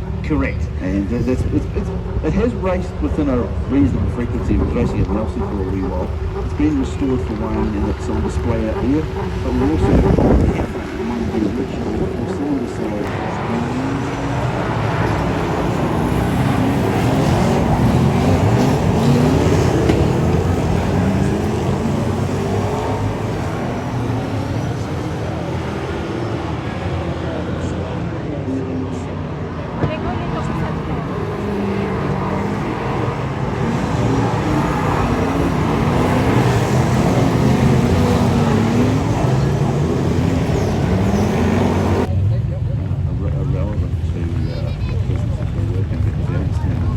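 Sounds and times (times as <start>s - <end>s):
race car engines: 0.0s - 46.9s.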